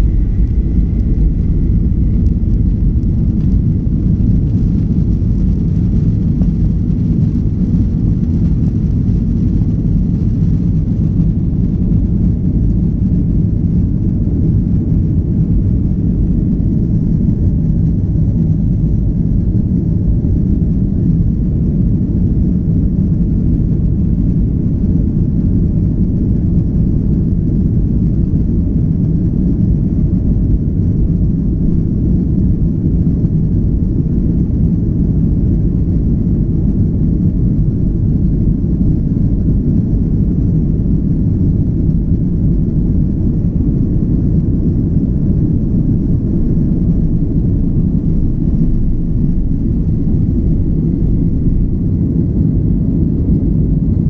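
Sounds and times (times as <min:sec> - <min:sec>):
aircraft cabin takeoff rumble: 0:00.0 - 0:54.0.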